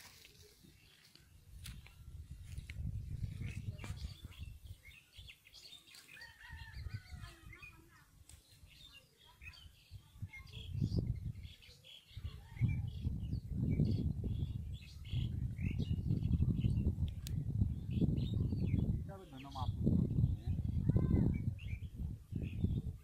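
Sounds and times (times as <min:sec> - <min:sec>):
birds chirping and calling: 0:00.0 - 0:23.0.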